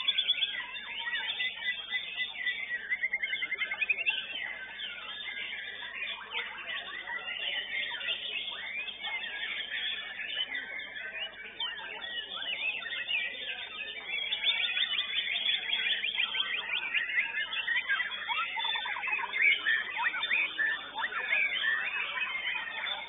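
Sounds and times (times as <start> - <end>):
bird singing whistled notes: 0.0 - 23.0.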